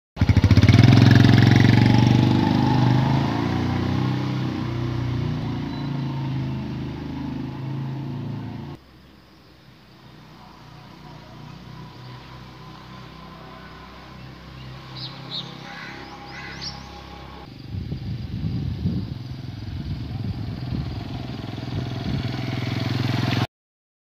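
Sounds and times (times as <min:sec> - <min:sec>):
small motorcycle riding off: 0:00.2 - 0:08.8, 0:10.1 - 0:23.5.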